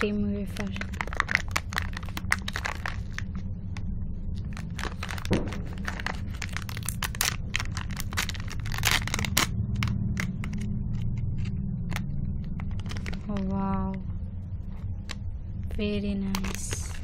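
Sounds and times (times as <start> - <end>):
plastic wrapper crinkling: 0.0 - 13.6, 16.3 - 17.0
steady low hum: 0.0 - 17.0.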